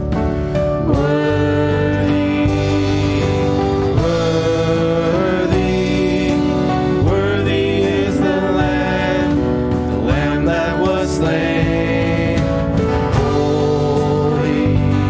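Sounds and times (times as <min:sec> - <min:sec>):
acoustic guitar: 0:00.0 - 0:15.0
band accompaniment: 0:00.0 - 0:15.0
singers in harmony: 0:00.4 - 0:15.0.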